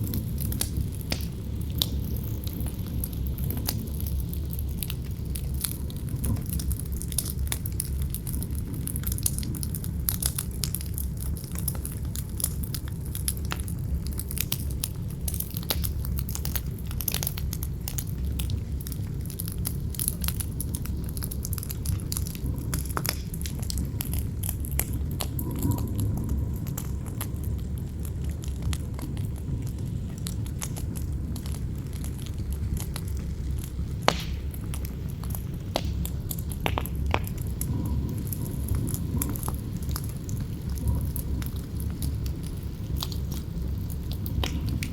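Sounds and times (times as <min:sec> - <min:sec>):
low wind rumble: 0:00.0 - 0:44.9
wood fire crackling and popping: 0:00.0 - 0:44.9.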